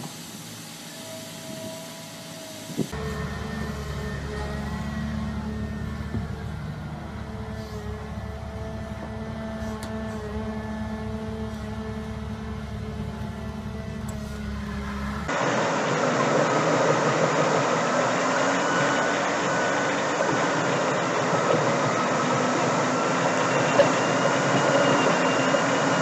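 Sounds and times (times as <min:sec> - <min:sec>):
rushing machine noise: 0:00.8 - 0:26.0
diesel engine running: 0:02.4 - 0:26.0.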